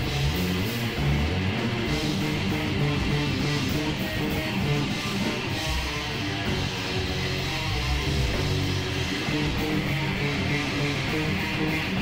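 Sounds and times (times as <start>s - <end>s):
bass guitar: 0.0s - 12.0s
distorted electric guitar riffing: 0.0s - 12.0s.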